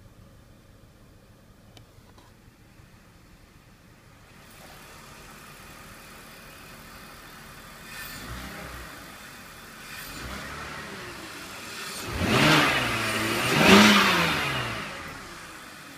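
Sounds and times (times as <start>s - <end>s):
car engine idling and revving: 0.0s - 15.9s.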